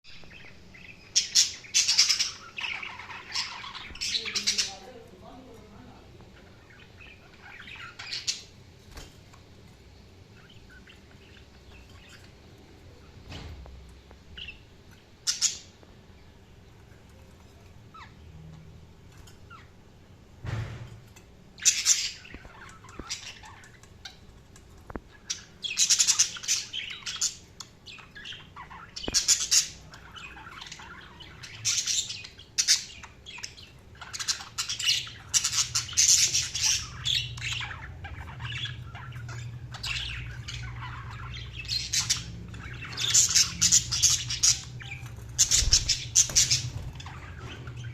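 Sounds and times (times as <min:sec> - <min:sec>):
budgerigars chirping and squawking: 0:00.1 - 0:47.9.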